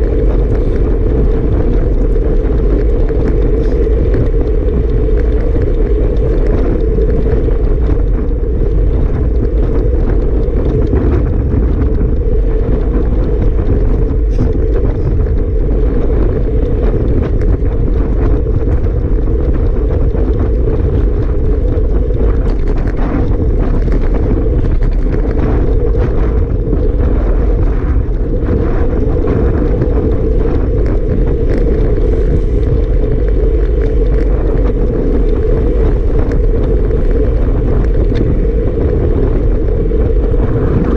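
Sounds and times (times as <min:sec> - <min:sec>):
wind blasting across microphone: 0:00.0 - 0:40.9.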